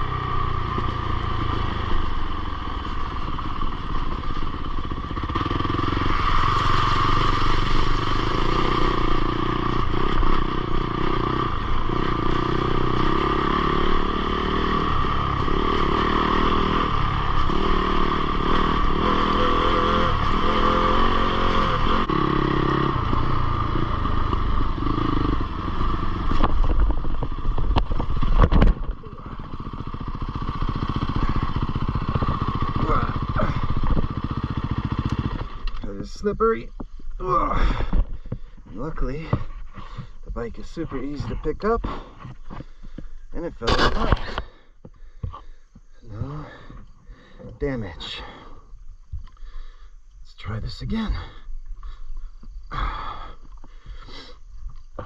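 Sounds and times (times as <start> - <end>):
motorcycle engine revving: 0.0 - 48.7.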